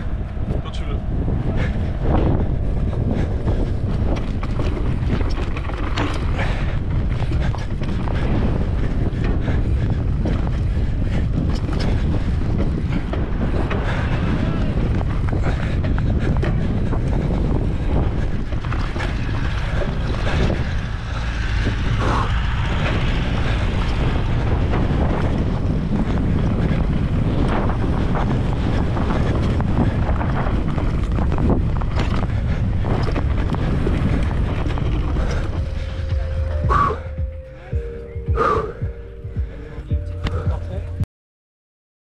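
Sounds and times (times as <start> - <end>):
tyres rumbling on dirt: 0.0 - 41.0
wind buffeting microphone: 0.0 - 41.0
bike knocks and rattles: 1.6 - 37.3.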